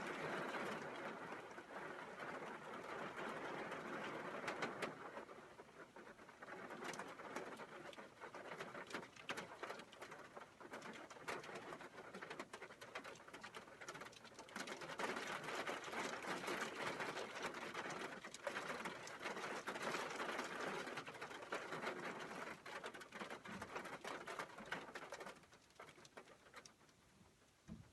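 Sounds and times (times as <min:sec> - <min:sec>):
rain and hail on a metal roof: 0:00.0 - 0:27.9.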